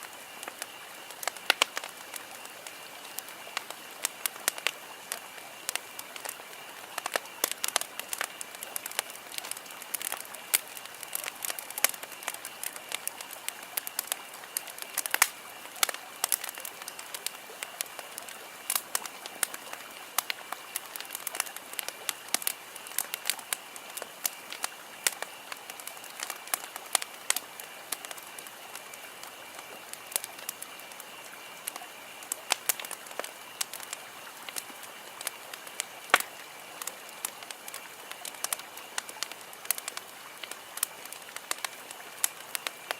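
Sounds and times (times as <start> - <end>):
campfire crackling and popping: 0.0 - 42.9
fire hiss: 0.0 - 42.9.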